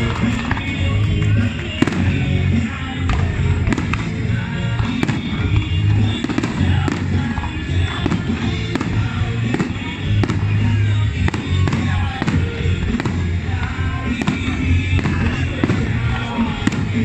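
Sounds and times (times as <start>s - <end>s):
fireworks bangs and crackles: 0.0s - 17.0s
loud music: 0.0s - 17.0s.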